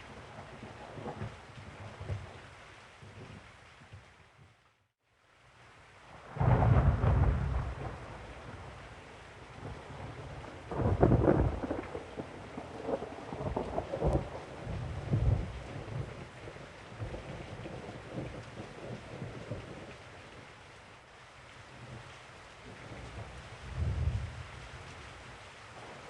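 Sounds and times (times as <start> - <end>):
rain falling steadily: 0.0 - 26.0.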